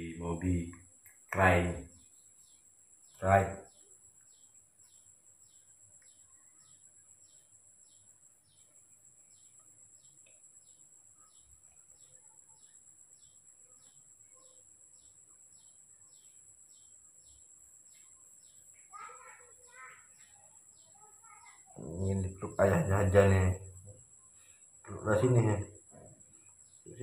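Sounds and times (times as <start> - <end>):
faint chirping: 0.0 - 27.0.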